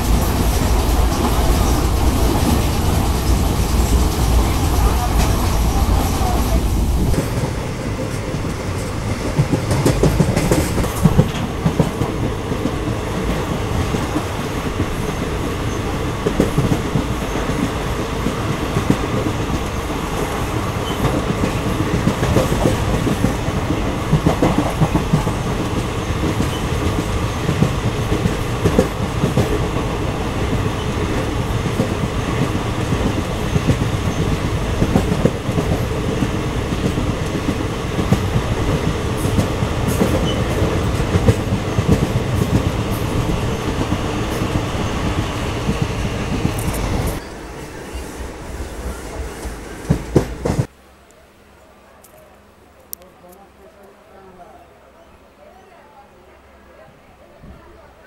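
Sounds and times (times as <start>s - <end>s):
wheels clacking over rails: 0.0s - 50.7s
train rumble: 0.0s - 58.0s.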